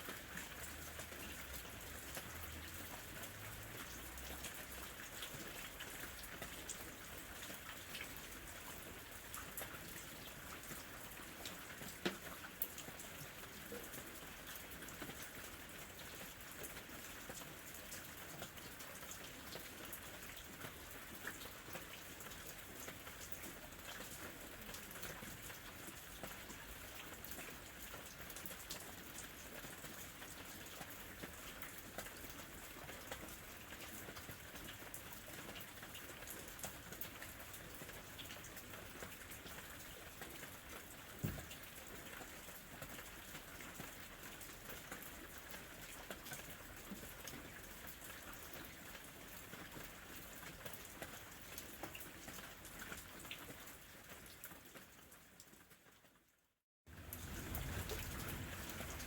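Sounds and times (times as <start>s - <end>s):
rain falling: 0.0s - 56.0s, 56.9s - 59.0s.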